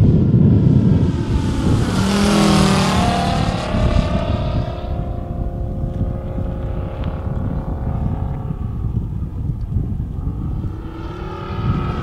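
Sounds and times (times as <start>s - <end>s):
model plane engine flying past: 0.0s - 12.0s.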